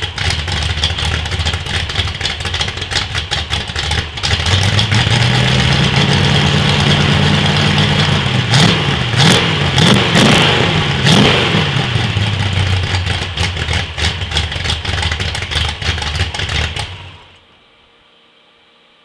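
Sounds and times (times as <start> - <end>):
engine idling unevenly: 0.0 - 17.4
engine throttle blips: 0.0 - 17.6.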